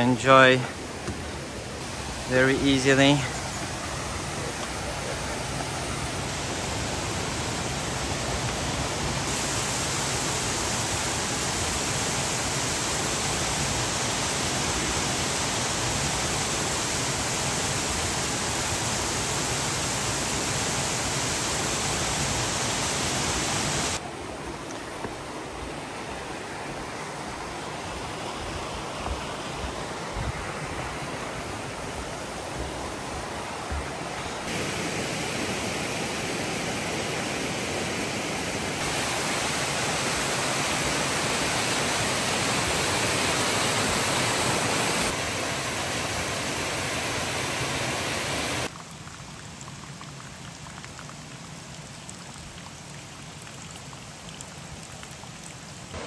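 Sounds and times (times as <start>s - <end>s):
rushing river water: 0.0s - 56.0s.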